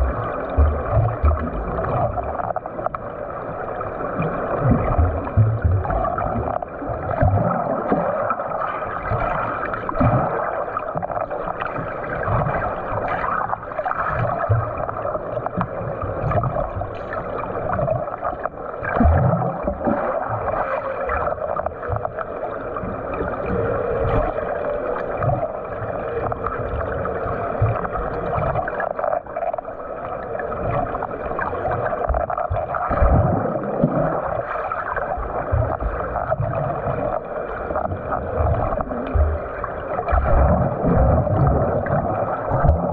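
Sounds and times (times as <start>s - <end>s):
low thumps and splashes: 0.0s - 3.1s, 4.2s - 29.1s, 30.6s - 42.9s
water churning and gurgling: 0.0s - 42.9s.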